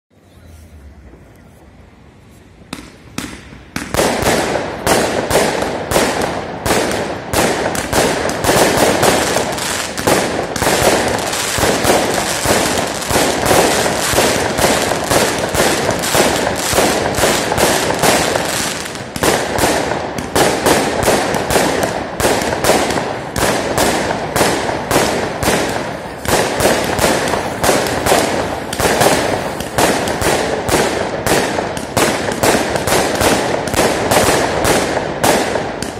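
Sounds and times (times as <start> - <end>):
fireworks bangs and crackles: 2.5 - 35.9.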